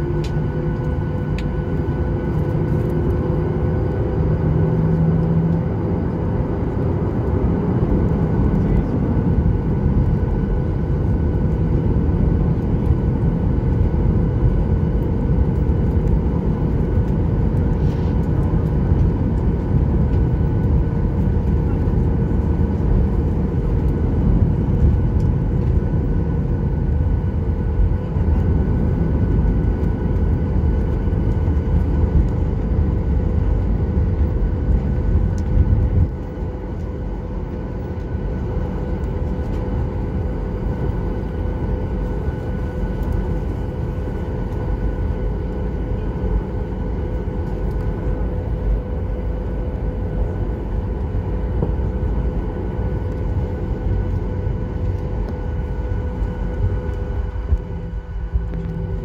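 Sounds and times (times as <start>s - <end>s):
aircraft cabin low rumble: 0.0s - 59.0s
jet engines whining at idle: 0.0s - 59.0s.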